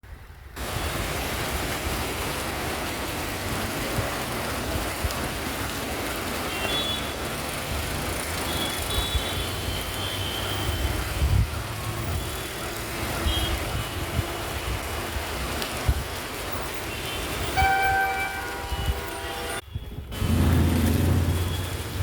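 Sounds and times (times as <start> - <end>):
rain hiss: 0.1 - 22.0
road traffic rumbling: 0.1 - 22.0.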